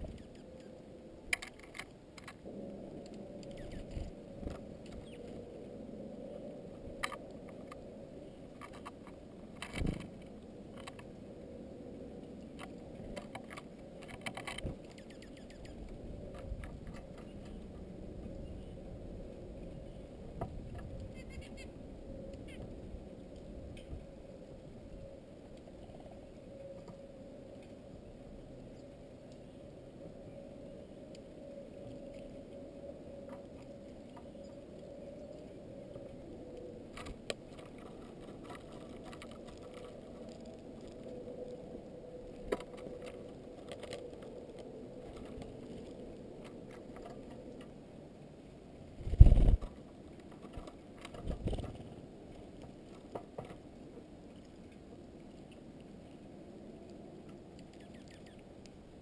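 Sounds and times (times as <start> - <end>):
birds pecking in seed: 0.0 - 27.0, 30.3 - 47.8, 49.0 - 59.0.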